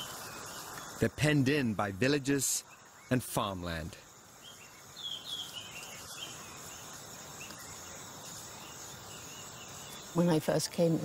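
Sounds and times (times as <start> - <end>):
high-pitched insect drone: 0.0 - 11.0
insect chirps: 0.0 - 11.0.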